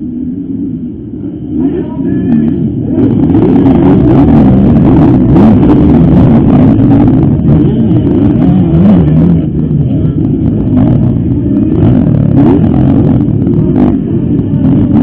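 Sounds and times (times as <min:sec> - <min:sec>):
motocross bike engines revving: 0:01.0 - 0:15.0.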